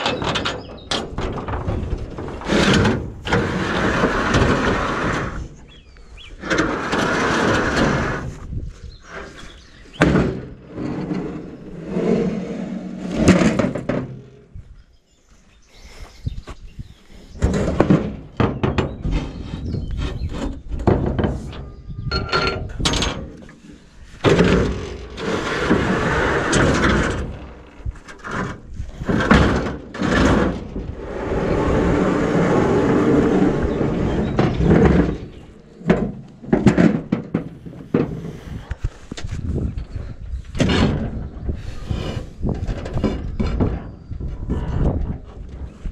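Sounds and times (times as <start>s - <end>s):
metal ramps clanking: 0.0s - 14.6s, 17.4s - 38.7s, 39.4s - 45.9s
metal ramps scraping: 0.0s - 14.6s, 17.0s - 45.9s.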